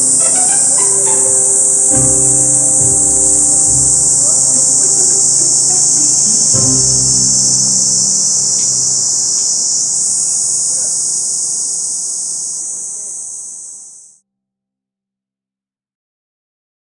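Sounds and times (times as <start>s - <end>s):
insects buzzing: 0.0s - 14.2s.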